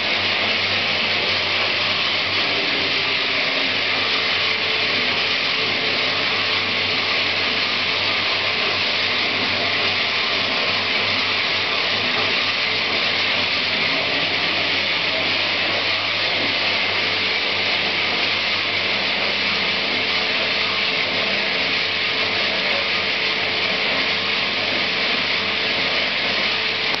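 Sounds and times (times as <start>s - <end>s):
bandsaw running: 0.0s - 27.0s.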